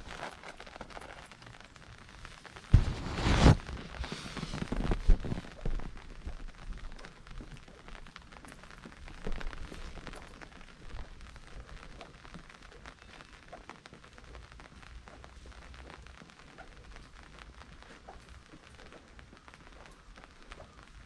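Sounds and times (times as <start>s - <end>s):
rain drops hitting: 0.0s - 21.0s.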